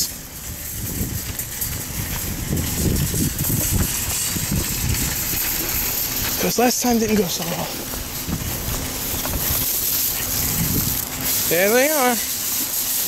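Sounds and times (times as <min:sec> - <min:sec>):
wind rumble on microphone: 0:00.0 - 0:07.2, 0:07.8 - 0:11.3
footsteps on wet asphalt: 0:00.0 - 0:13.0
steady outdoor hiss: 0:00.0 - 0:13.0.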